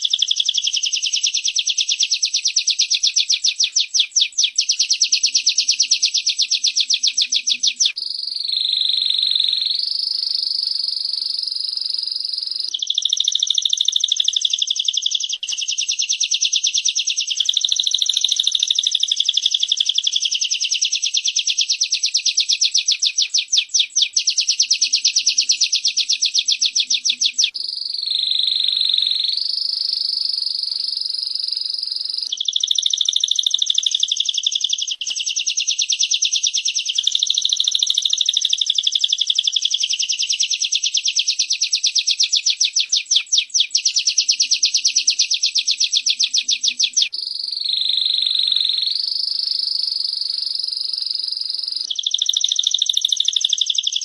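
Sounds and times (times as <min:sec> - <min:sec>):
bird calling: 0:00.0 - 0:54.0
canary singing trills: 0:00.0 - 0:54.0.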